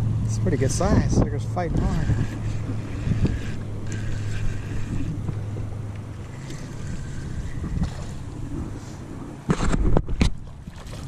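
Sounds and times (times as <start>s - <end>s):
wind buffeting microphone: 0.0s - 10.6s
steady low hum: 0.0s - 10.8s.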